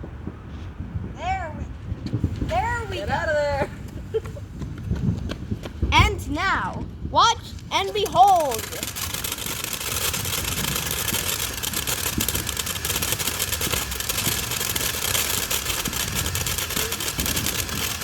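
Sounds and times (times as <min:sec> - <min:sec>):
firework hissing and crackling: 0:01.8 - 0:05.6, 0:07.3 - 0:18.0.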